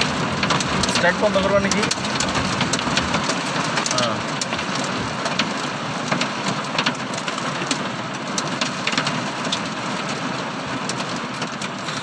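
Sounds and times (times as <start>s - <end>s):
heavy rain hissing on a car: 0.0s - 12.0s
raindrops ticking on body and glass: 0.0s - 12.0s.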